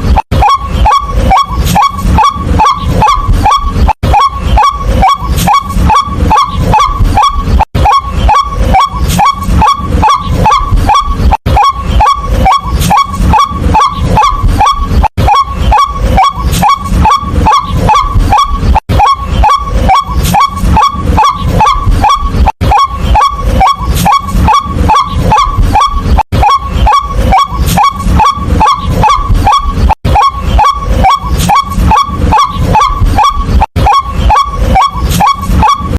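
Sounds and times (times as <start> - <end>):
waterhen calling kwak notes: 0.0 - 35.9.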